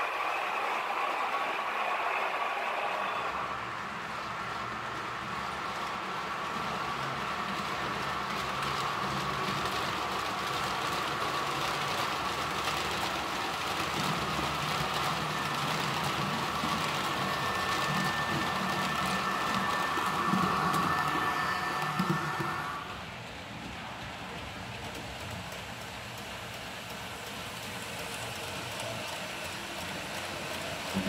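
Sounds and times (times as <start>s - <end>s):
model train rolling rattle: 4.8s - 31.0s.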